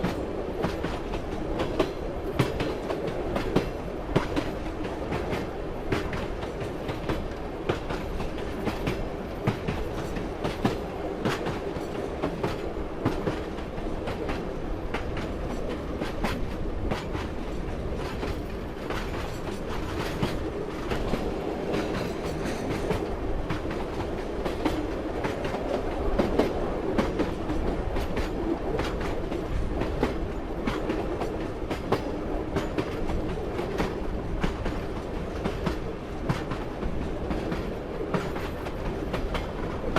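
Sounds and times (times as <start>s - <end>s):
train rumbling at speed: 0.0s - 39.9s
wheels clacking over rail joints: 0.0s - 39.9s.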